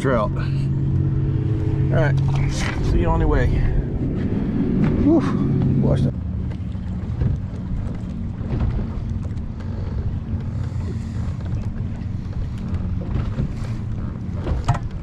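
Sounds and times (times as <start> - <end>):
boat motor running: 0.0 - 15.0
wind buffeting microphone: 0.4 - 15.0.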